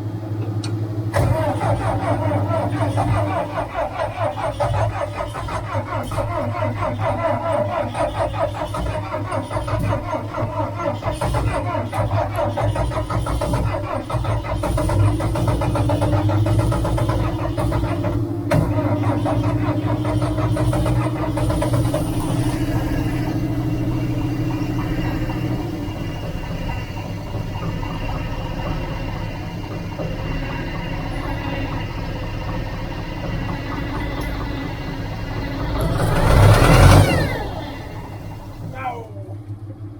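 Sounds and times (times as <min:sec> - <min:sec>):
diesel engine cranking: 0:00.0 - 0:39.9.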